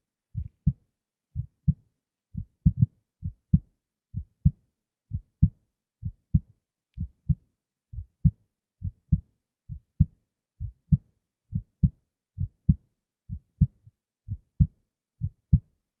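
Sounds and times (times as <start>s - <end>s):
human heartbeat: 0.4s - 0.8s, 1.4s - 15.8s.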